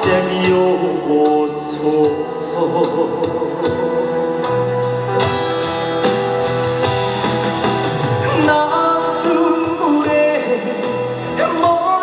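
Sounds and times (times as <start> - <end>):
ballad backing track: 0.0 - 12.0.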